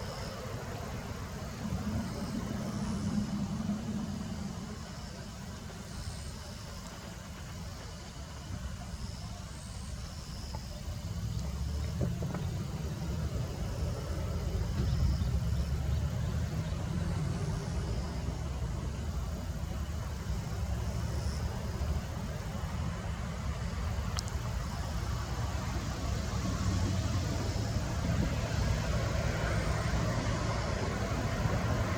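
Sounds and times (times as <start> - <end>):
road traffic rumble: 0.0 - 31.9.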